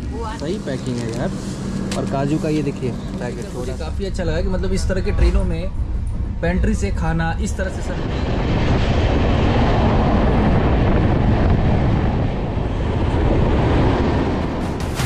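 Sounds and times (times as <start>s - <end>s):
moving train rumble and air rush: 0.0s - 15.0s
passing train on adjacent track: 0.0s - 15.0s.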